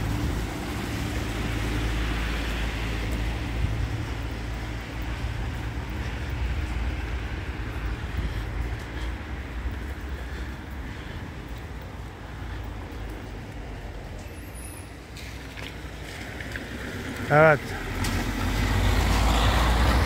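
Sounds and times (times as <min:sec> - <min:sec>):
traffic rumble: 0:00.0 - 0:20.0
tyres hissing on wet road: 0:00.0 - 0:20.0.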